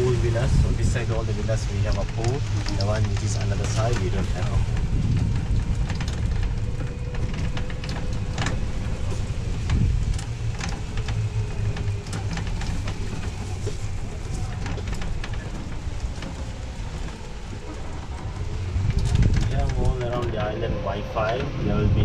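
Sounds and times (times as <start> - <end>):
crackles and clicks: 0.0 - 21.4
vehicle motion rumble: 0.0 - 22.0
wind on microphone: 0.0 - 22.0.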